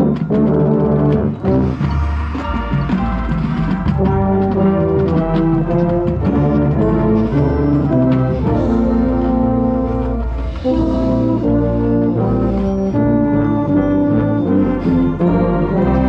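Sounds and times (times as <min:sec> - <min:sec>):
marching band brass chords: 0:00.0 - 0:16.0.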